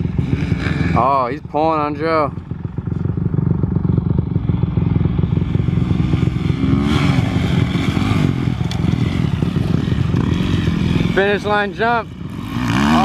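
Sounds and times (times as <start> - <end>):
dirt bike engines running hard: 0.0 - 13.0.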